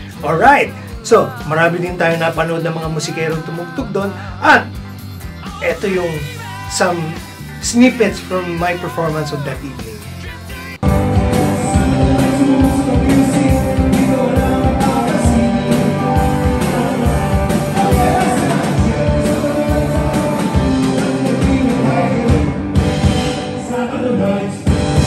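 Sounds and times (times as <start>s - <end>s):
man singing: 0.0s - 22.8s, 23.4s - 25.0s
rock band playing: 0.0s - 25.0s.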